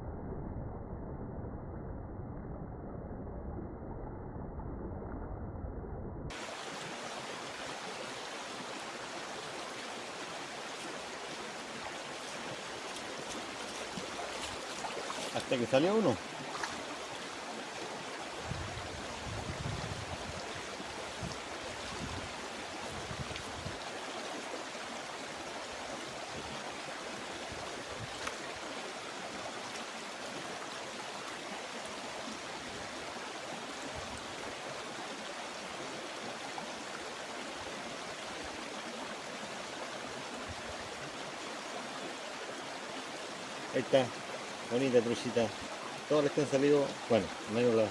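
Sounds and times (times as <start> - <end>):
river water rushing: 6.3 - 47.9.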